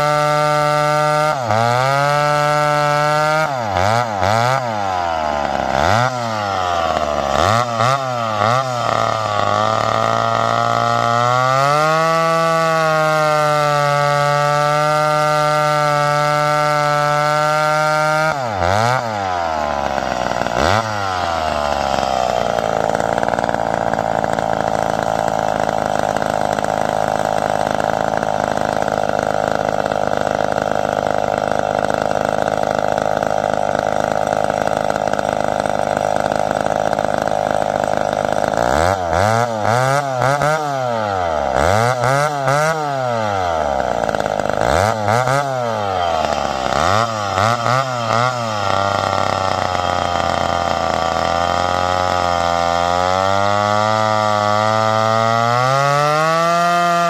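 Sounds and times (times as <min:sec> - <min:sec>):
chainsaw cutting through log: 0:00.0 - 0:57.0.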